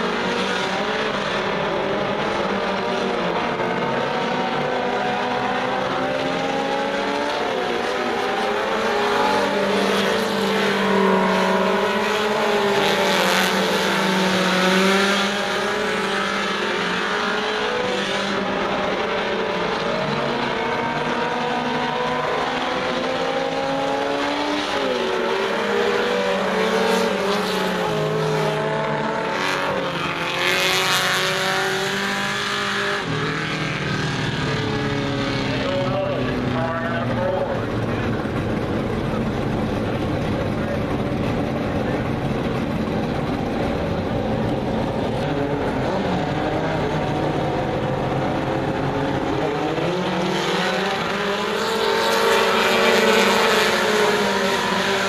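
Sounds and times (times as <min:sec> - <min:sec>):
race car engines: 0:00.0 - 0:55.0
race cars passing close by: 0:00.0 - 0:55.0.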